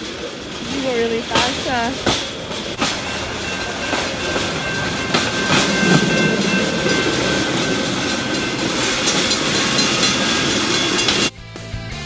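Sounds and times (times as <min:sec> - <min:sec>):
steel wheels rolling on rail track: 0:00.0 - 0:11.3.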